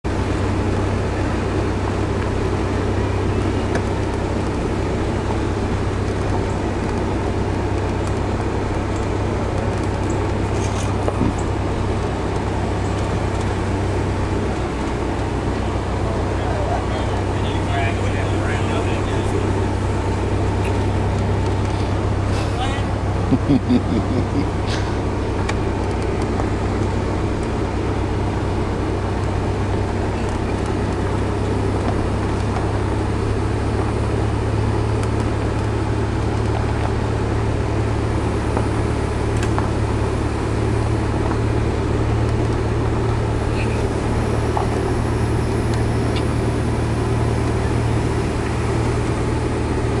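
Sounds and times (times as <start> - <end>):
car engine and tyres rumbling: 0.0 - 50.0.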